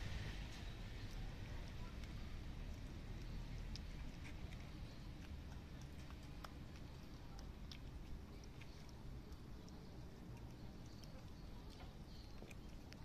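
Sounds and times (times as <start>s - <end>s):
cats chewing and lapping food: 0.0s - 13.0s
low background rumble: 0.0s - 13.0s.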